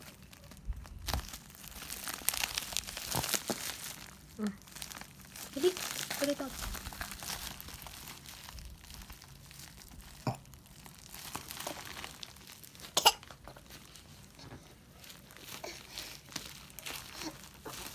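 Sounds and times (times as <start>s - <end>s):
plastic packaging crinkling: 0.0s - 17.9s.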